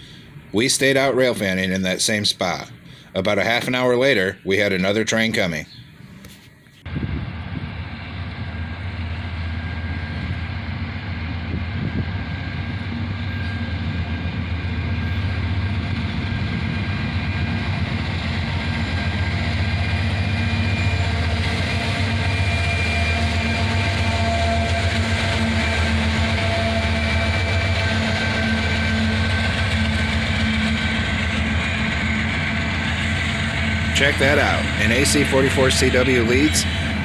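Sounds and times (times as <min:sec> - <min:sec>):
diesel locomotives rumbling: 0:00.0 - 0:37.0.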